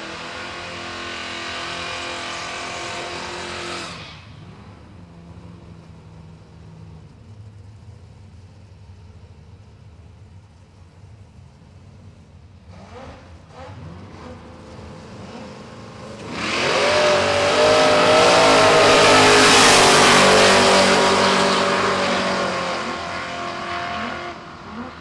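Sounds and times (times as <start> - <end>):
drag car engines revving: 0.0 - 25.0.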